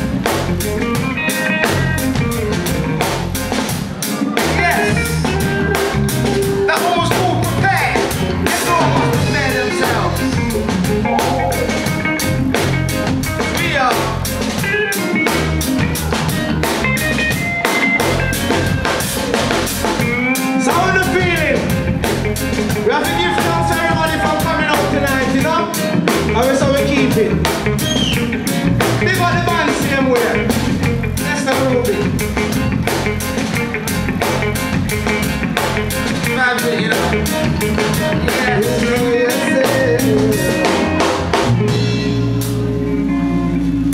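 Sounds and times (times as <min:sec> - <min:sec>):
drum kit beat: 0:00.0 - 0:42.8
electric guitar: 0:00.0 - 0:43.9
keyboard: 0:00.0 - 0:43.9.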